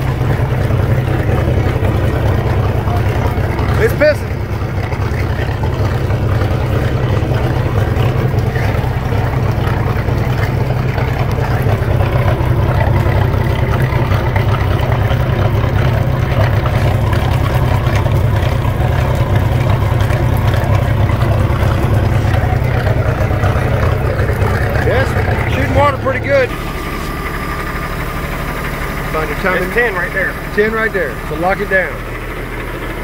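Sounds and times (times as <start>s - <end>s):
boat engine running: 0.0s - 33.0s
water splashing on concrete: 0.0s - 33.0s.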